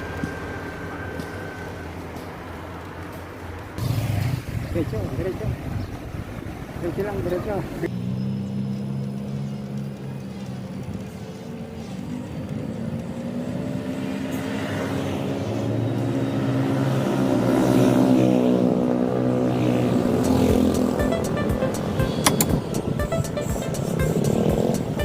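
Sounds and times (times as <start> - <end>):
vehicle engine passing by: 3.7 - 25.0.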